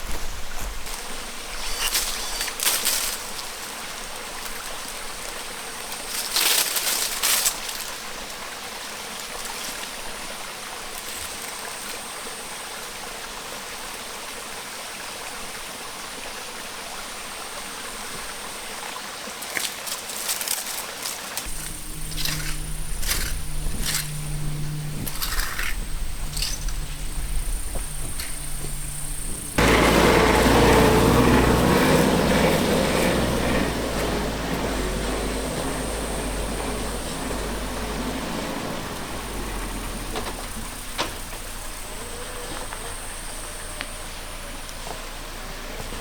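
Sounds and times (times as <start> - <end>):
flowing water rushing: 0.0 - 46.0.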